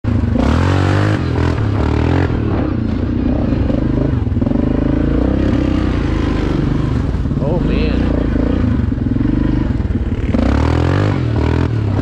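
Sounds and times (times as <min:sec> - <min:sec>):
quad engine revving: 0:00.1 - 0:12.0.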